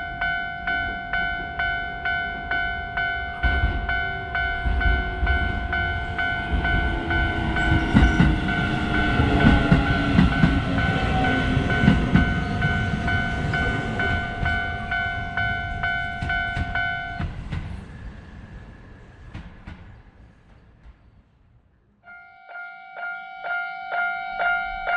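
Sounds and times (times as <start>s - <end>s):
level crossing bell ringing: 0.0s - 17.2s, 22.1s - 24.9s
train rumbling: 0.0s - 22.0s
wheels clattering on rail joints: 0.7s - 21.3s.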